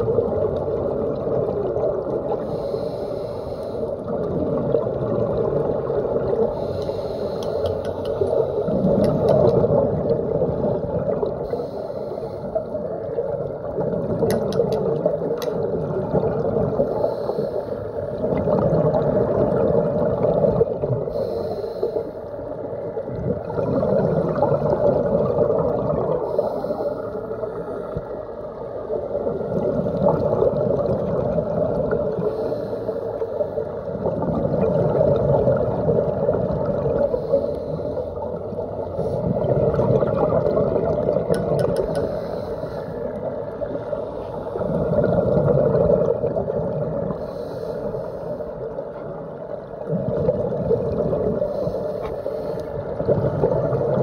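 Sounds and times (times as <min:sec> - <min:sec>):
muffled underwater rushing and gurgling: 0:00.0 - 0:54.0.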